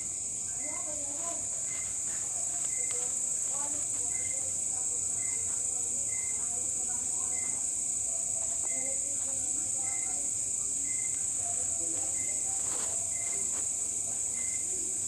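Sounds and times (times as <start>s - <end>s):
cricket chirps: 0.0s - 15.0s
crickets trilling: 0.0s - 15.0s.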